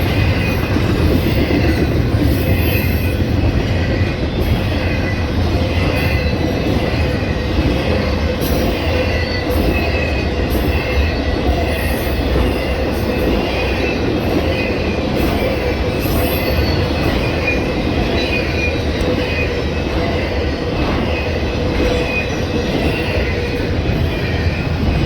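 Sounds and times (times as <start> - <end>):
train cars rumbling on rails: 0.0 - 25.0
wheel squeal: 0.0 - 25.0.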